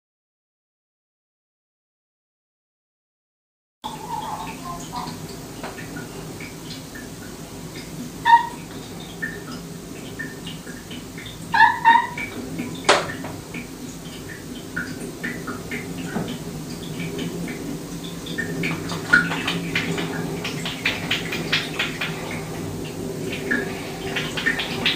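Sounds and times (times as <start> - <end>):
steady low hum: 3.8 - 24.9.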